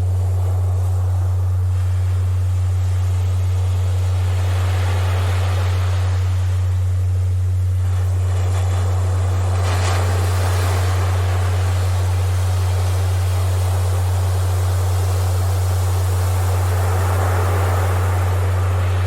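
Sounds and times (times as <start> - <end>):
ocean waves breaking: 0.0 - 19.0
steady low electronic tone: 0.0 - 19.0.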